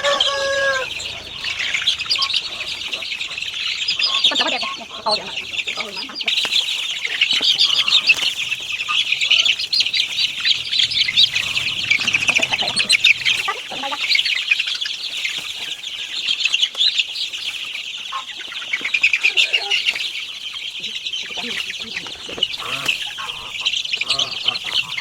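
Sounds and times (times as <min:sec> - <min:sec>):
chickens clucking: 0:00.0 - 0:25.0
chicks peeping: 0:00.0 - 0:25.0.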